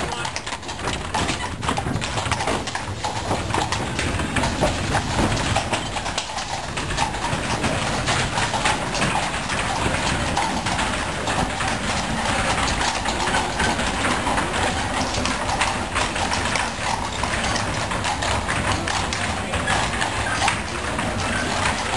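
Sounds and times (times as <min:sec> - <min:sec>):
coach wheels rolling over cobbles: 0:00.0 - 0:21.9
hooves clip-clopping on cobblestones: 0:00.0 - 0:21.9.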